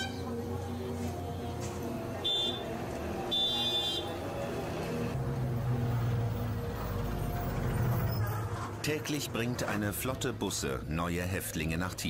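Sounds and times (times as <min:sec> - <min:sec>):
bus engine rumbling: 0:00.0 - 0:11.8.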